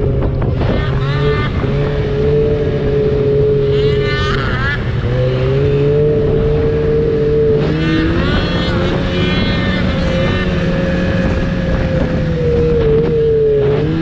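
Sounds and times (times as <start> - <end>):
snowmobile engine running: 0.0 - 14.0.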